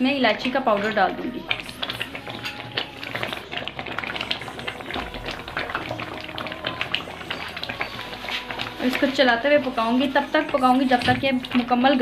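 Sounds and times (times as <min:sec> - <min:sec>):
jam boiling with popping bubbles: 0:00.0 - 0:12.0.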